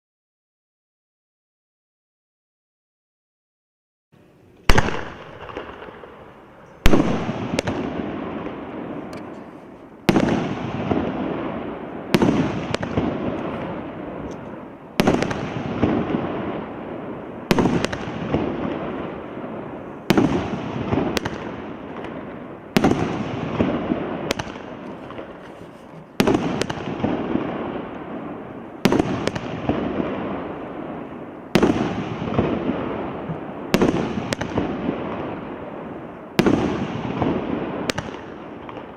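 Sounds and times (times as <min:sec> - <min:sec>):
firework shots banging: 0:04.6 - 0:38.9.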